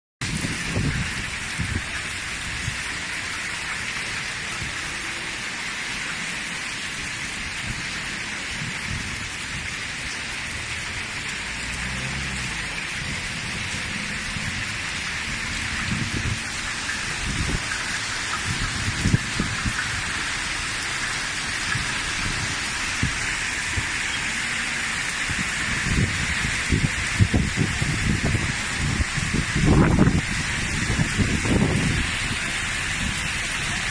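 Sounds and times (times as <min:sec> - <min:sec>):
hail and heavy rain pelting: 0:00.2 - 0:33.9.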